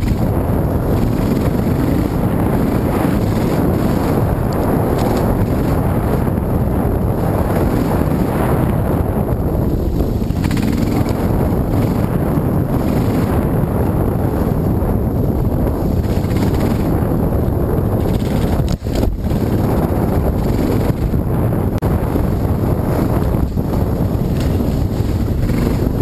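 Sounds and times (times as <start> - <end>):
dirt bike engine running: 0.0 - 26.0
wind buffeting microphone: 0.0 - 26.0.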